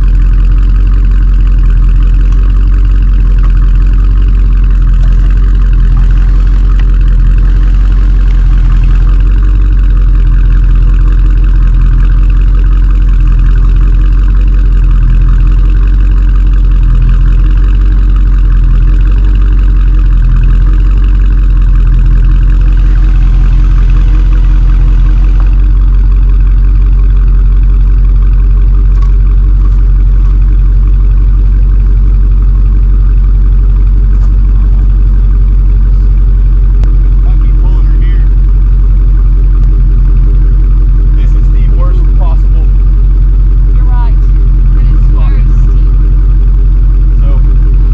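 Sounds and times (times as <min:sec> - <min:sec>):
vehicle engine idling: 0:00.0 - 0:47.9.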